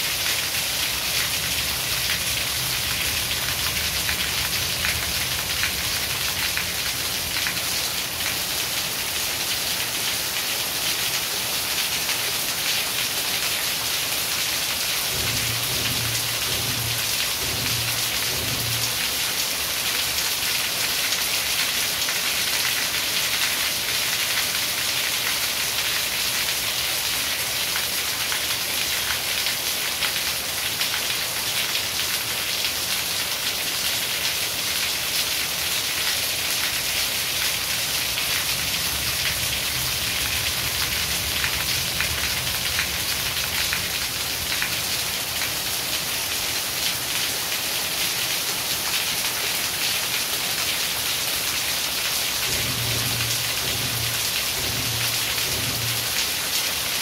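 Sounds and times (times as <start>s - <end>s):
steady rain on plants and roofs: 0.0s - 57.0s.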